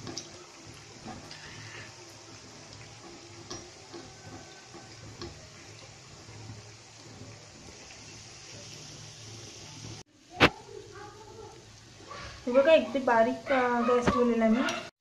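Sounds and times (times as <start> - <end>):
dough deep-frying in oil: 0.0 - 14.9.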